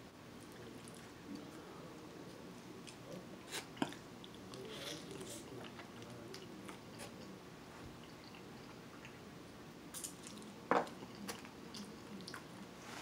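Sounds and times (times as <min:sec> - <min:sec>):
man chewing food: 0:00.4 - 0:13.0.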